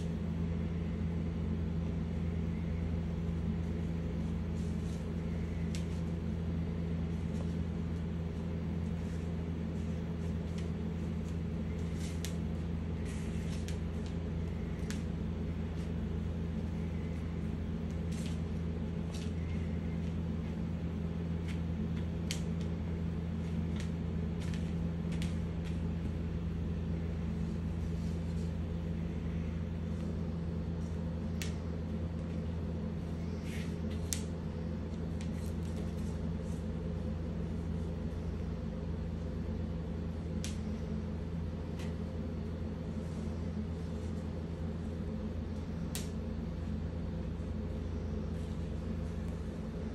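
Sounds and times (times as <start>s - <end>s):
low indoor hum: 0.0s - 49.9s.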